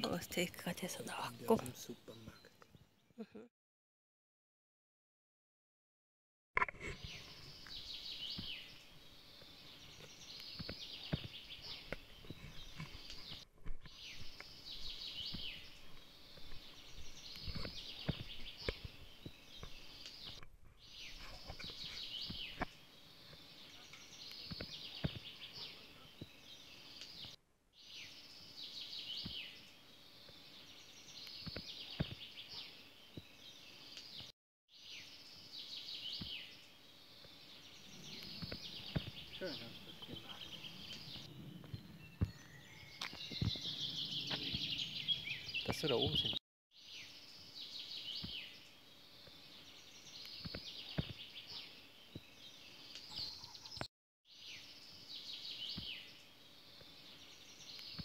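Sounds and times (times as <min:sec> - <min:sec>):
songbird singing chirping phrase: 0:00.0 - 0:03.3, 0:06.9 - 0:58.0.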